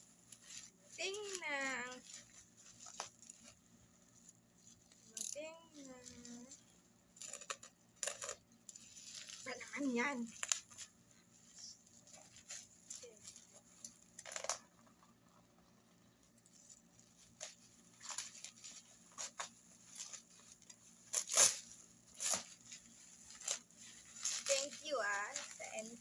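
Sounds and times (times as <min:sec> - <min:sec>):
packaging rustling and tearing: 0:00.2 - 0:05.1, 0:07.2 - 0:15.0, 0:16.3 - 0:26.0.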